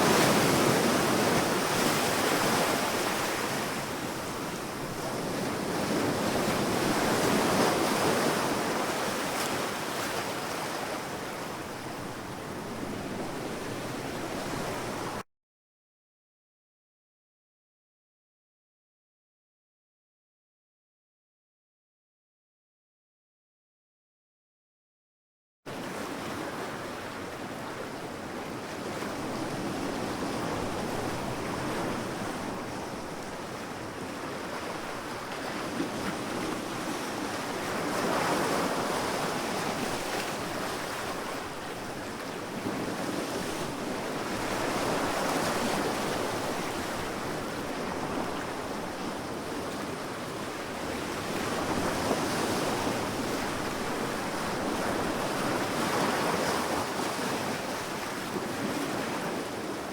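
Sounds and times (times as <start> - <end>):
sea waves breaking on beach: 0.0 - 15.2, 25.7 - 59.9.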